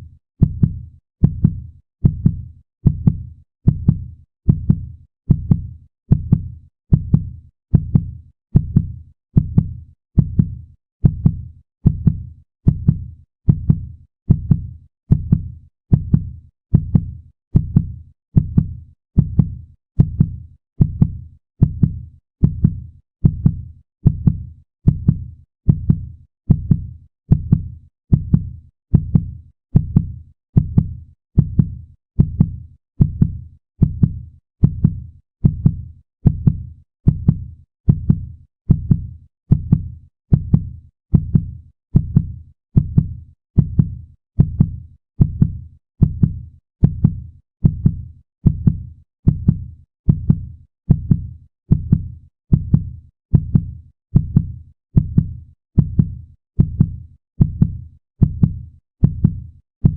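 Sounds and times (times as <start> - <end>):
heartbeat thumps: 0.4 - 59.9.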